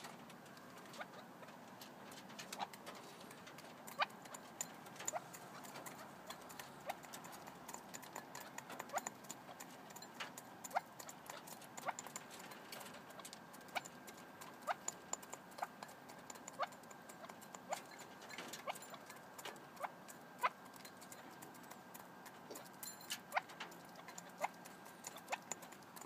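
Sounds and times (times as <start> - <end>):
birds pecking feed from bowl: 0.0 - 26.0.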